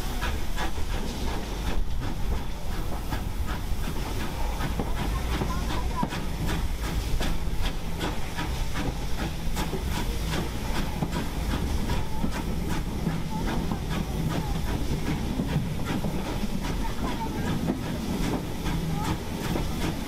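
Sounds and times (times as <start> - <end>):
locomotive running rumble: 0.0 - 20.0
steam hissing: 0.0 - 20.0.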